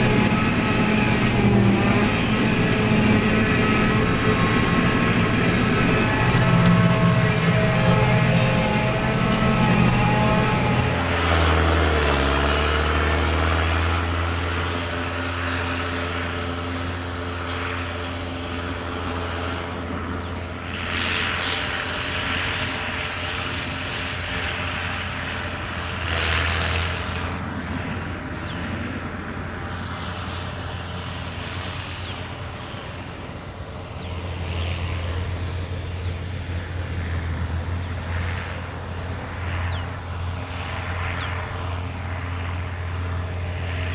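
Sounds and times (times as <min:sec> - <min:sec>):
farm machinery engine drone: 0:00.0 - 0:43.9.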